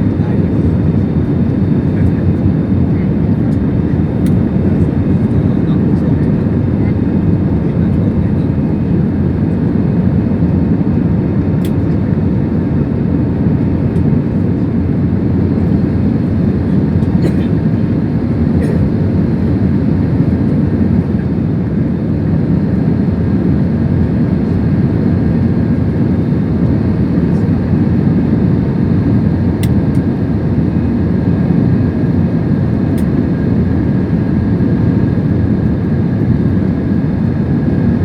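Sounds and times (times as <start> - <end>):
airliner engines and airflow rumble: 0.0 - 38.0.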